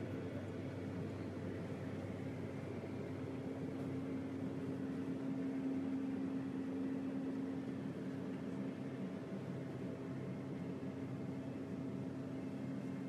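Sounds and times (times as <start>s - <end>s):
jet cabin hum: 0.0s - 13.0s.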